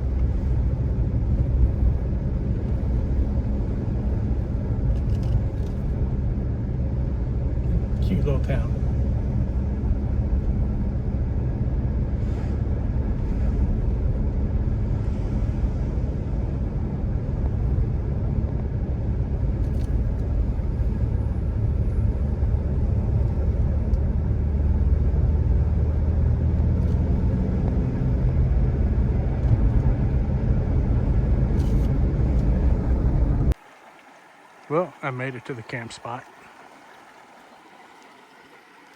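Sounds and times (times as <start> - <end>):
vehicle driving on road: 0.0 - 34.9, 36.3 - 38.9.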